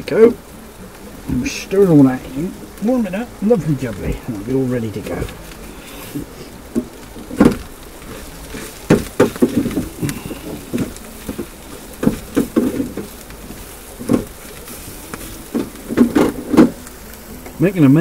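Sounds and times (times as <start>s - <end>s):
food sizzling: 0.0s - 18.0s.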